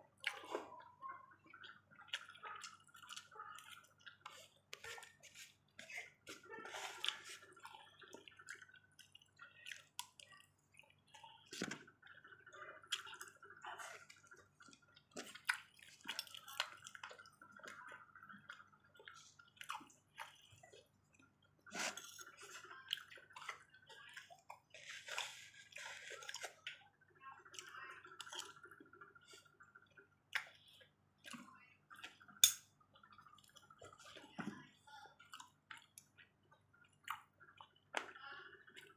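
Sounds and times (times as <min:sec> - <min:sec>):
person chewing food: 0:00.1 - 0:38.9.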